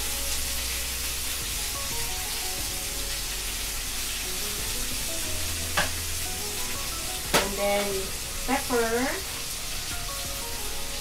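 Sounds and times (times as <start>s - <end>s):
potatoes sizzling in butter: 0.0s - 11.0s
soft background music: 0.0s - 11.0s.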